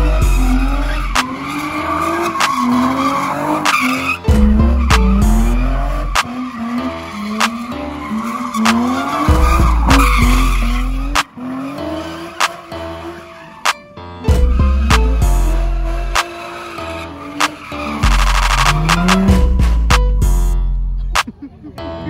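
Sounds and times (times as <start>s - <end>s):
tyres screeching on pavement: 0.0s - 19.4s
car engine revving: 0.0s - 20.6s
hip-hop music with heavy bass: 0.0s - 22.0s.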